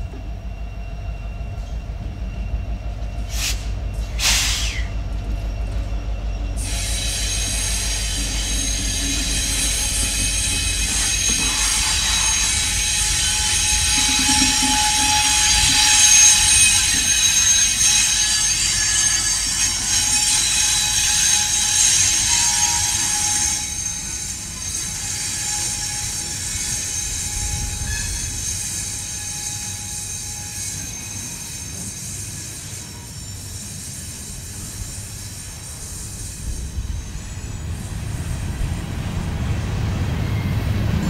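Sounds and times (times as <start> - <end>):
train wheels squealing: 0.0 - 41.0.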